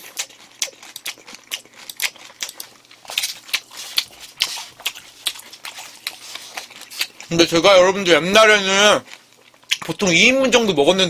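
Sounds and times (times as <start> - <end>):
person chewing food: 0.0 - 10.4.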